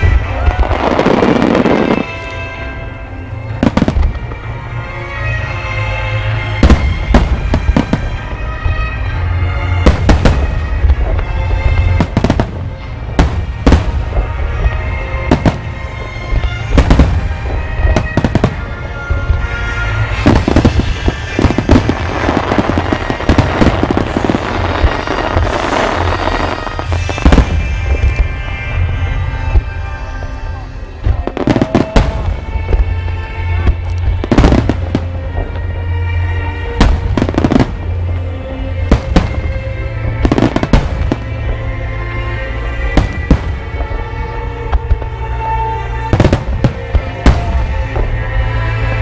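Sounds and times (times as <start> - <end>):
fireworks crackling: 0.0 - 49.0
music of held tones: 0.0 - 49.0.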